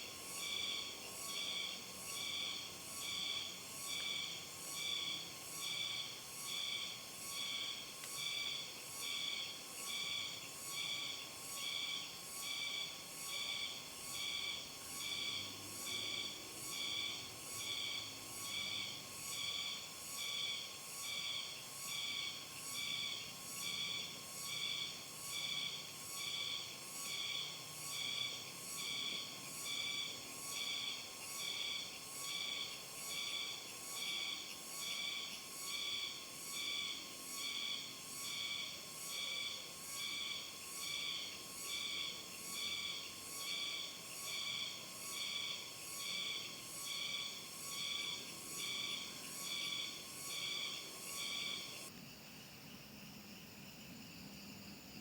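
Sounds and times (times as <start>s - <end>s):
insects chorus pulsing shrill: 0.3s - 51.9s.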